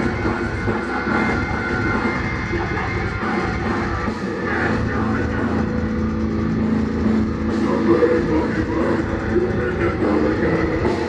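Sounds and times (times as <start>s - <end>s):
metal band playing live: 0.0s - 11.0s.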